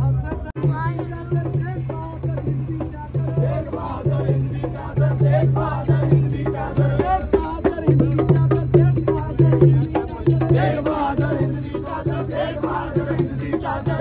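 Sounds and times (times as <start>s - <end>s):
rattling percussion: 0.4s - 14.0s
voices singing: 0.4s - 14.0s.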